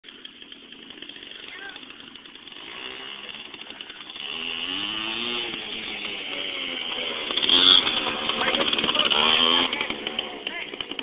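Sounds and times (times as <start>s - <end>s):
dirt bike engine revving: 0.1s - 11.0s.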